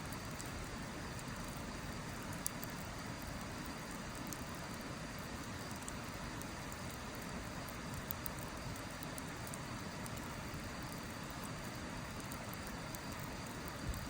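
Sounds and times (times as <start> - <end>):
fire hissing: 0.0 - 14.0
firewood crackling and popping: 0.0 - 14.0.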